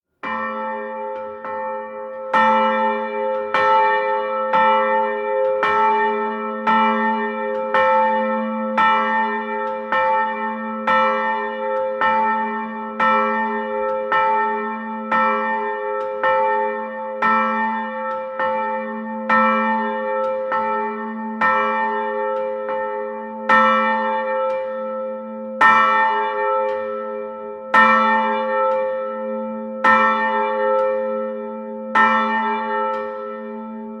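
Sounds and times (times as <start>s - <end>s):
church bell tolling: 0.2s - 34.0s.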